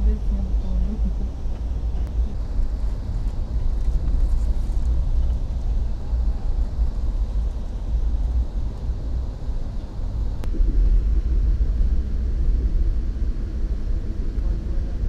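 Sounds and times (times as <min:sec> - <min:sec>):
train rumbling inside car: 0:00.0 - 0:15.0.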